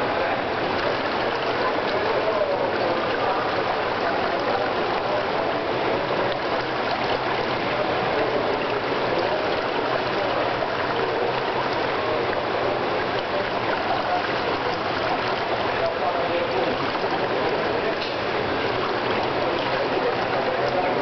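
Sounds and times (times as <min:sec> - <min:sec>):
rush of moving water: 0:00.0 - 0:21.0.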